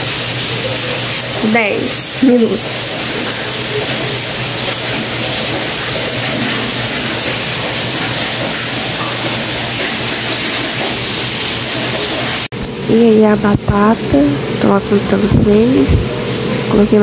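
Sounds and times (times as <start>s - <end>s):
air fryer fan hissing: 0.0s - 17.0s.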